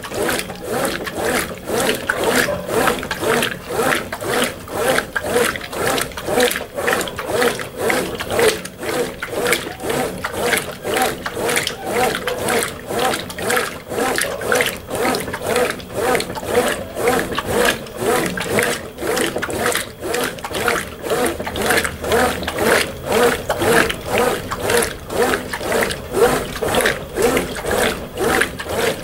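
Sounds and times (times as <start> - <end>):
washing machine agitating clothes: 0.0 - 29.0.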